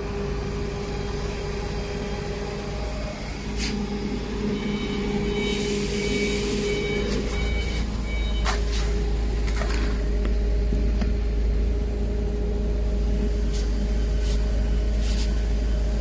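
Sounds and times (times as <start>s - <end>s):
machine cooling fans humming: 0.0s - 16.0s.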